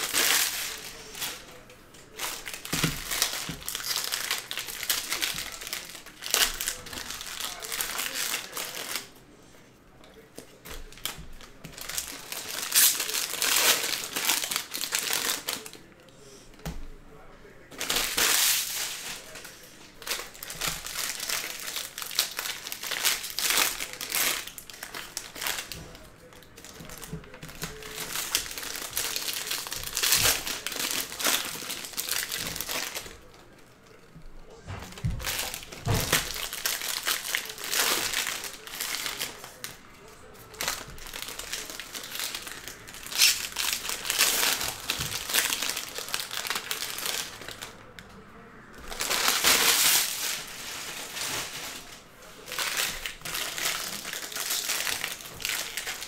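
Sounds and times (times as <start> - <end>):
wrappers crinkling: 0.0 - 9.2, 10.1 - 16.2, 17.7 - 33.8, 34.9 - 47.9, 48.8 - 56.0.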